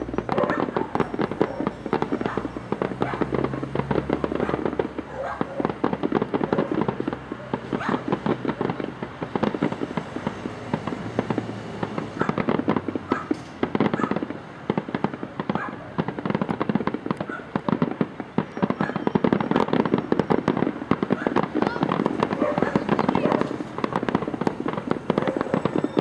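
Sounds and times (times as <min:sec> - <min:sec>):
fireworks cracking and popping: 0:00.0 - 0:26.0.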